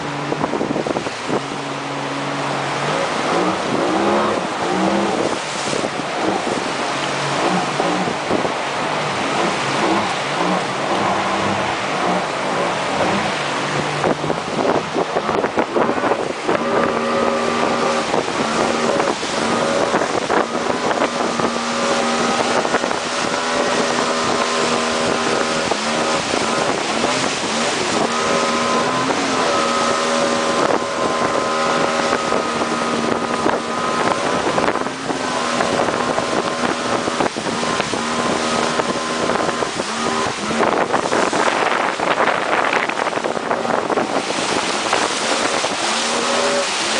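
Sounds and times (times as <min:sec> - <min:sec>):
outboard motor running: 0:00.0 - 0:46.9
water rushing along hull: 0:00.0 - 0:46.9
wind on microphone: 0:00.0 - 0:46.9.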